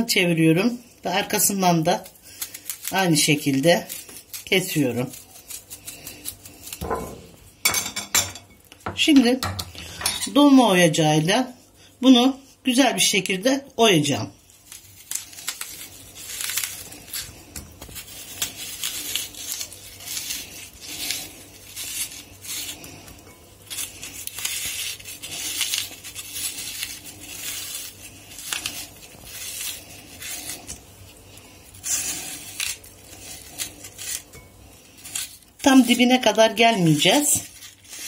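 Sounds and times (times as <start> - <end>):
metal corer scraping onion: 1.0 - 8.6, 14.5 - 38.0.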